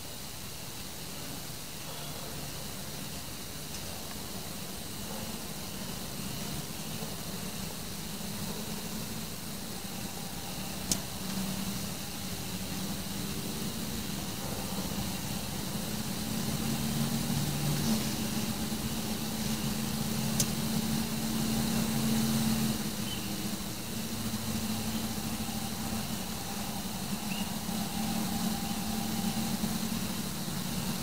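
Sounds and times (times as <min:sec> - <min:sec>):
faint hiss: 0:00.0 - 0:31.0
low mechanical hum: 0:00.0 - 0:31.0.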